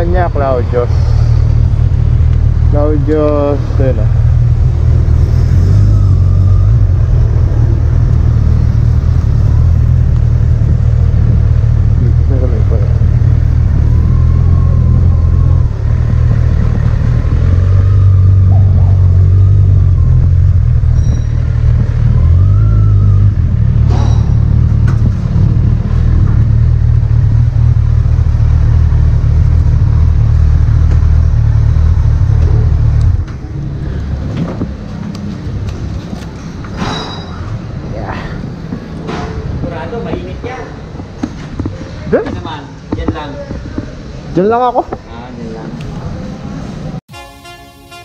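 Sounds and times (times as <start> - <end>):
motorcycle engine droning: 0.0 - 43.8.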